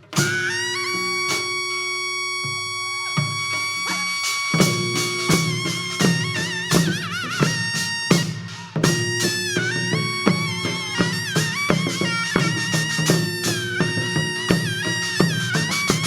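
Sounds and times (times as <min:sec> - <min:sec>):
drum strokes: 0:00.0 - 0:16.0
reedy wind instrument: 0:00.0 - 0:16.0.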